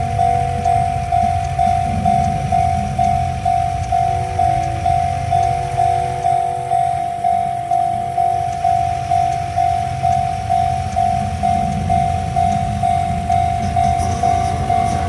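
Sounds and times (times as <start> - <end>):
level crossing warning bell: 0.0 - 15.0
low rumble: 0.0 - 15.0.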